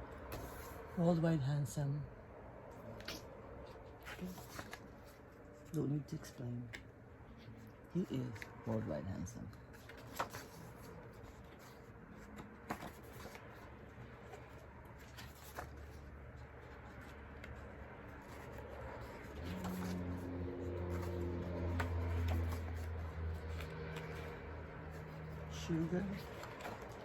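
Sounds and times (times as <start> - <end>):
paper rustling and clicks: 2.7 - 27.0.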